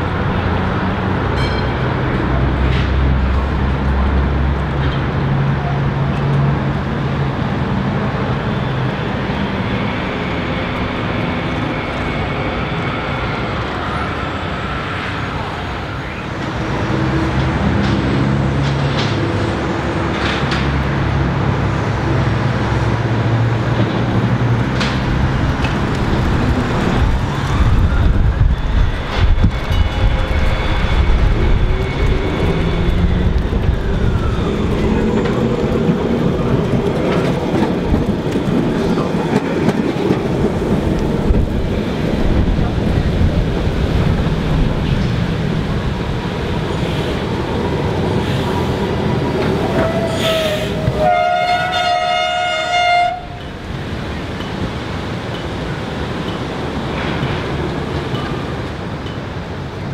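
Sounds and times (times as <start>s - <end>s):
road traffic passing: 0.0s - 59.9s
tram rumbling on tracks: 0.0s - 59.9s.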